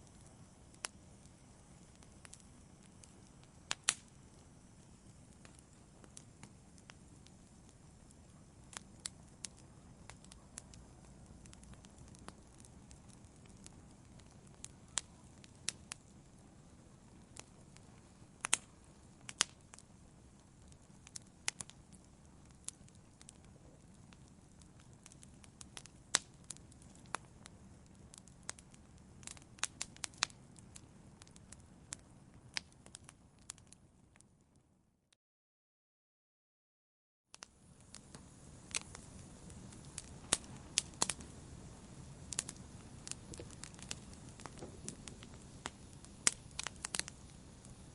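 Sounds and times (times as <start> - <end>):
wood fire crackling: 0.0 - 34.6, 37.3 - 47.9.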